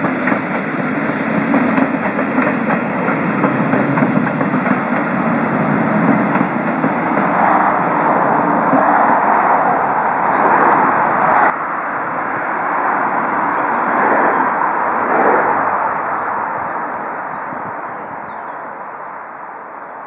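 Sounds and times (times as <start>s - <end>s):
railway carriages rumbling: 0.0s - 20.0s.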